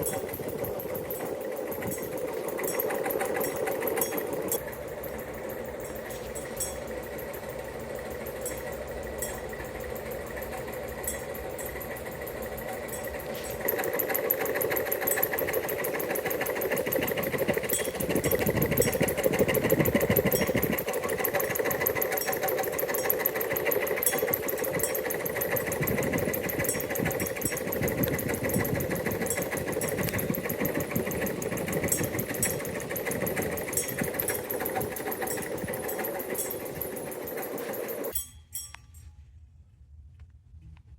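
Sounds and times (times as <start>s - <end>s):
fan blades ticking: 0.0s - 39.0s
ceiling fan motor hum: 0.0s - 40.9s.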